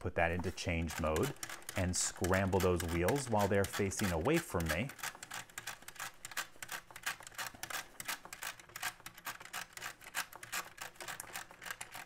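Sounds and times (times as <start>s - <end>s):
combination lock wheels clicking: 0.4s - 12.0s.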